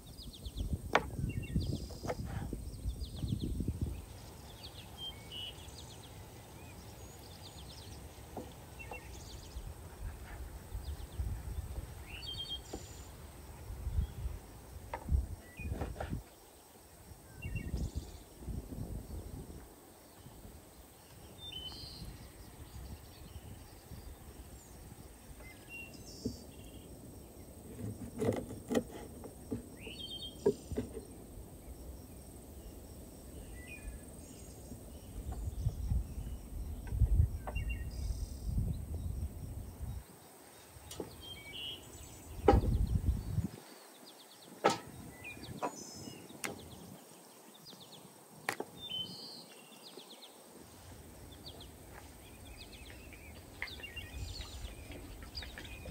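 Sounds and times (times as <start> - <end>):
wind rumbling on microphone: 0.0 - 43.8, 44.4 - 47.2, 50.6 - 55.9
birds chirping: 0.0 - 55.9.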